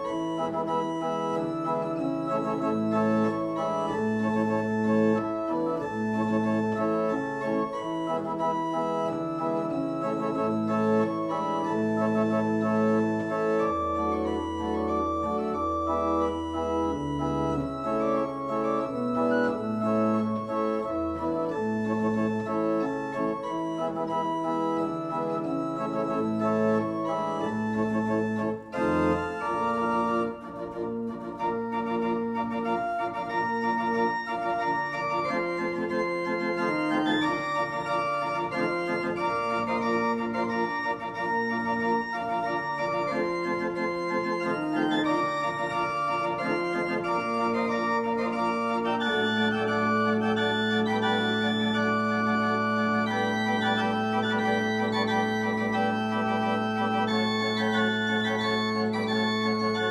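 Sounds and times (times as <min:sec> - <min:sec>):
pipe organ playing chords: 0:00.0 - 0:59.9.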